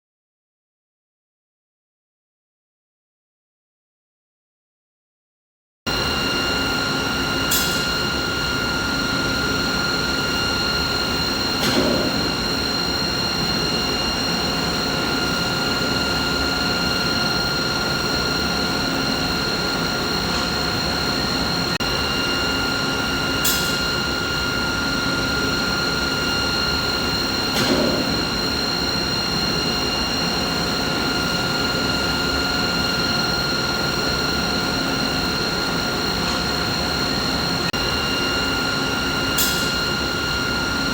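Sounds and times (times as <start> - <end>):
machinery hum with whining tones: 5.9 - 40.9.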